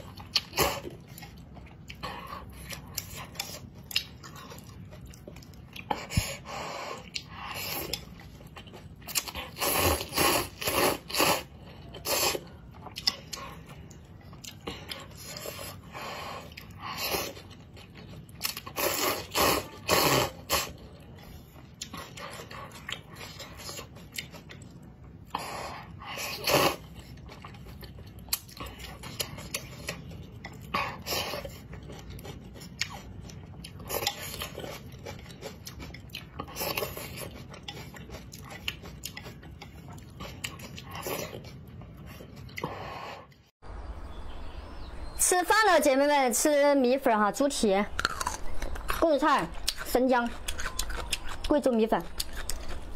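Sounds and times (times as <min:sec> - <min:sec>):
noodles slurping: 0:00.3 - 0:43.5, 0:47.2 - 0:52.9.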